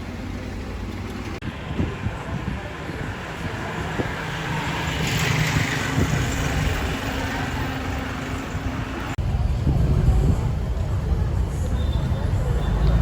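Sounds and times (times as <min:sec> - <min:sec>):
road noise: 0:00.0 - 0:13.0
vehicle engine low rumble: 0:00.0 - 0:13.0.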